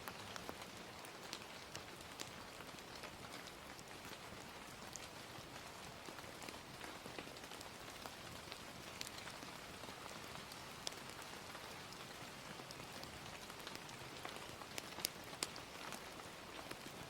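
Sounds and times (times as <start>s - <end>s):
gentle rain: 0.0s - 17.0s
wood fire crackling: 0.0s - 17.0s.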